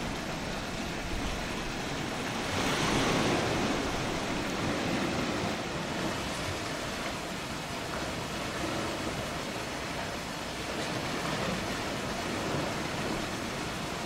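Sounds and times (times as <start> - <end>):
surf washing over rocks: 0.0 - 14.0.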